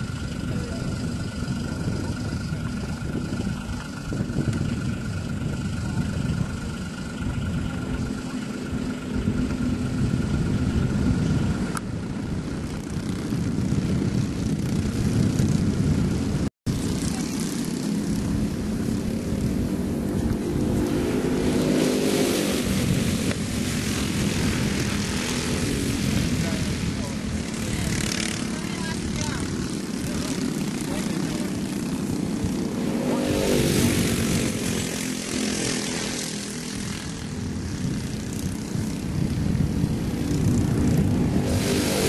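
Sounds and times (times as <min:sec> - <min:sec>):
kart engines buzzing: 0:00.0 - 0:42.0.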